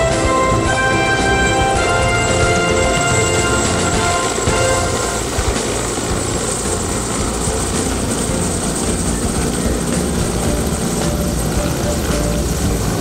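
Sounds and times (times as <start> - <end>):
background music: 0.0 - 13.0
helicopter engines: 0.0 - 13.0
helicopter rotors beating: 0.0 - 13.0.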